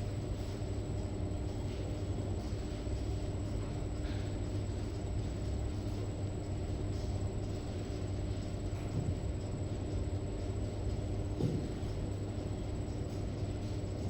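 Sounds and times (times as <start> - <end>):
faint constant hum: 0.0 - 14.0.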